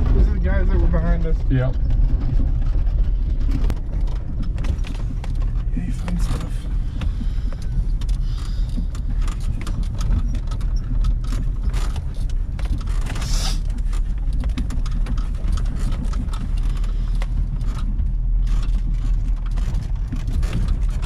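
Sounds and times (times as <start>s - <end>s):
engine and tyre rumble: 0.0s - 21.0s
vehicle rattling over ruts: 0.0s - 21.0s.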